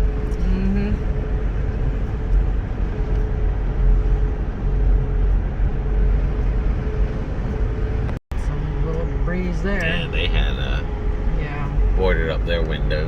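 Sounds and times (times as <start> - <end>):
tyre and engine rumble: 0.0 - 13.0.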